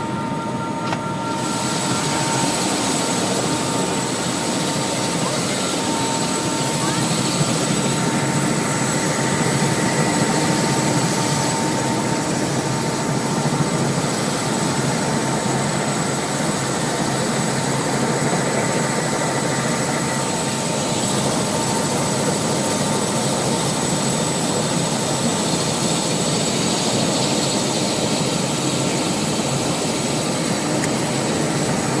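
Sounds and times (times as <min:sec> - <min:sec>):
helicopter turbine and rotor: 0:00.0 - 0:32.0.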